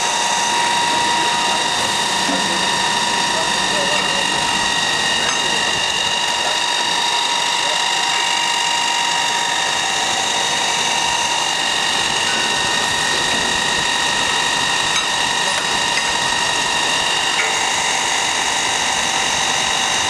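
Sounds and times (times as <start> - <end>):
machine whine: 0.0 - 20.0.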